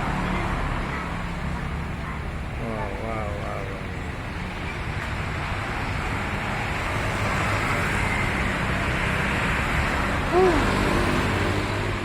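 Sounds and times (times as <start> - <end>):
passing vehicle engine and tyres: 0.0 - 12.0.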